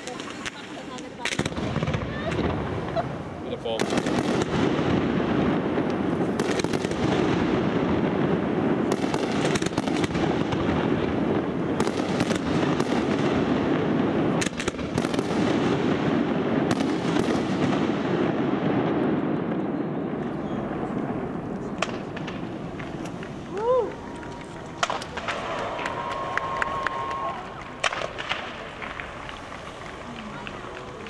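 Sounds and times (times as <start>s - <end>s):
fireworks crackling and rumbling: 0.0s - 31.0s
sharp firework bangs: 0.0s - 31.0s.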